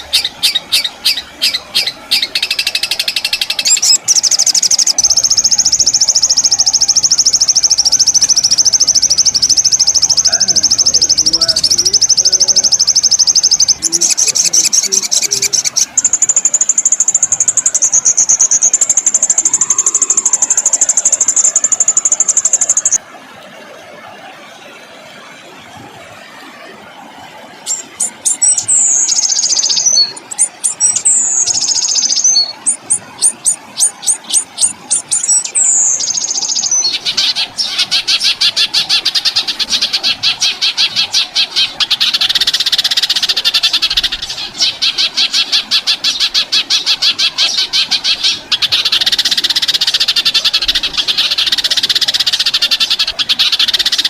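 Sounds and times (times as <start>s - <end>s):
fast rattling bird trill: 0.0s - 23.0s, 27.7s - 54.0s
songbird clicks and whistle: 0.0s - 23.0s, 27.7s - 54.0s.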